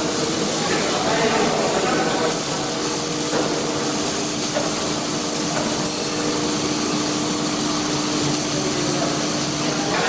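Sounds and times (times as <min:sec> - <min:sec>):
machine hiss: 0:00.0 - 0:10.0.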